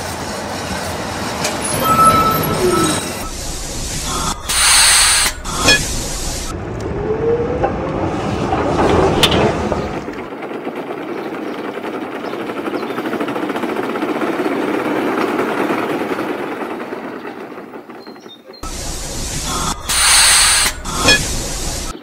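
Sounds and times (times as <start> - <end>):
tram rattling on rails: 0.0 - 22.0.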